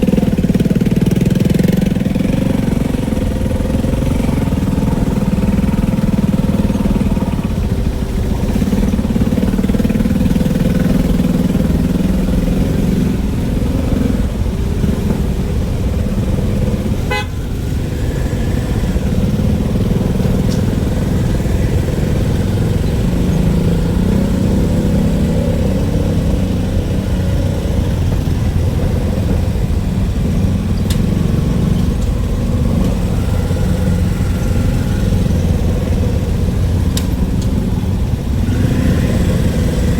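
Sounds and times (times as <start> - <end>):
road and traffic noise: 0.0 - 39.9
vehicle engine running: 0.0 - 39.9.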